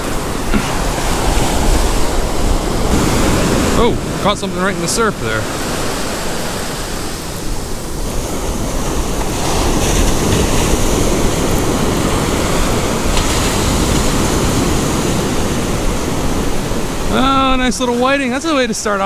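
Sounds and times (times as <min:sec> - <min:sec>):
ocean surf breaking on sand: 0:00.0 - 0:19.0.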